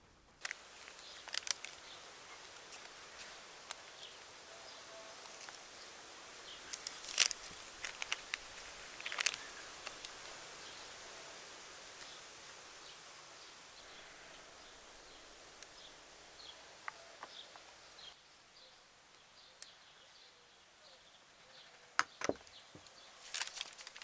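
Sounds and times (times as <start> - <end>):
steady hiss: 0.0 - 21.5, 22.6 - 24.0.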